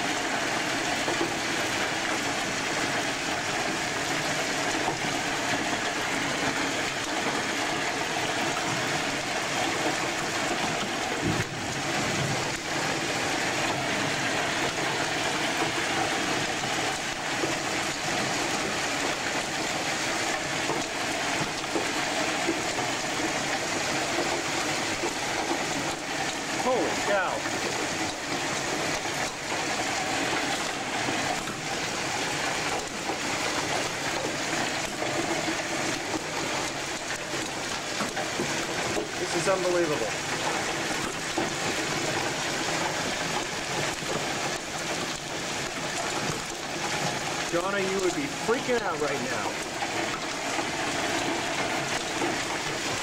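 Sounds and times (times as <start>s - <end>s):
heavy hail and rain: 0.0s - 53.0s.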